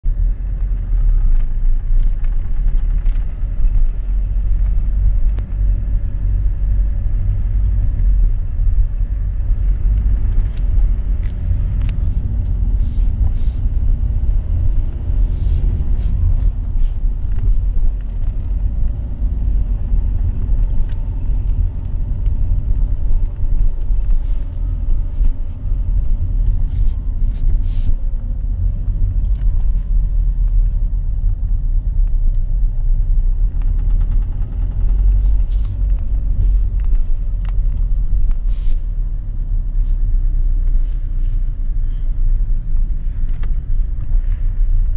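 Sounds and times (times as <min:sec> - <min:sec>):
car engine low rumble: 0:00.0 - 0:44.9.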